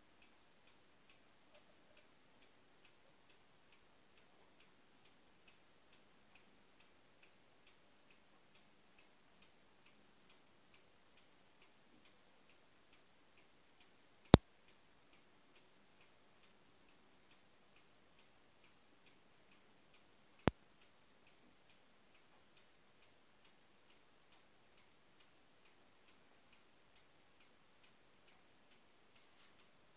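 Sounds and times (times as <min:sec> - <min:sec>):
faint steady ticking: 0:00.0 - 0:29.9.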